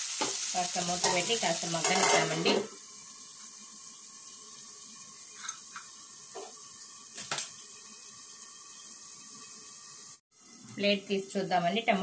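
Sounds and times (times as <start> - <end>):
onions and tomatoes sizzling: 0.0 - 12.0.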